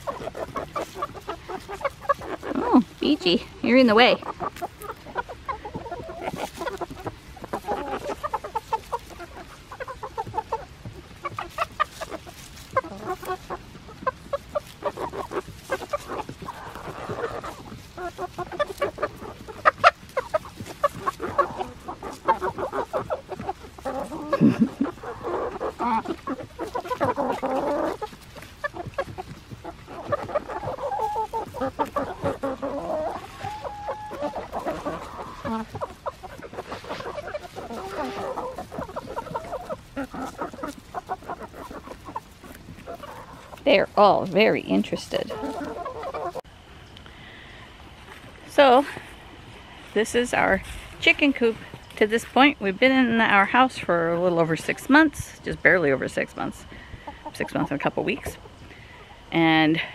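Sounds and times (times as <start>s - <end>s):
chickens clucking: 0.0s - 59.9s
chickens pecking at pumpkin: 0.0s - 59.9s.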